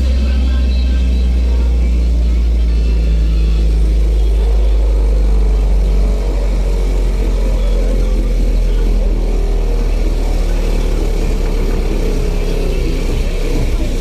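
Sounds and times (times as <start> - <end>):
deep bass tone from subwoofers: 0.0 - 14.0.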